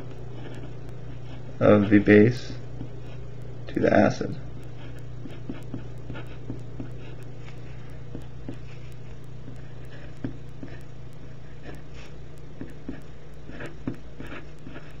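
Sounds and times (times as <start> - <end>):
low electrical hum: 0.0 - 15.0
pen writing on paper: 0.3 - 2.1, 2.8 - 3.2, 4.6 - 15.0.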